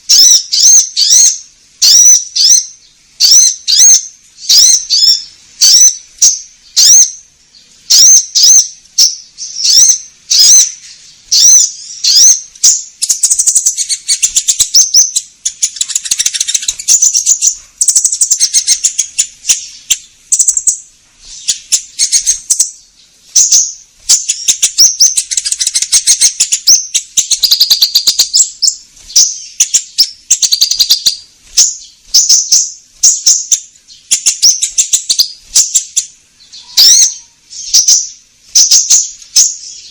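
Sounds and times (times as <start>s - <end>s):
bird song: 0.0s - 39.9s.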